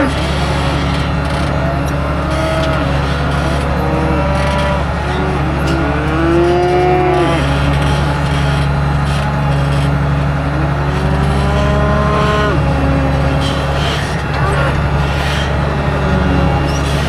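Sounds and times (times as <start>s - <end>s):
cattle bawling: 0.0s - 17.0s
engine running: 0.0s - 17.0s.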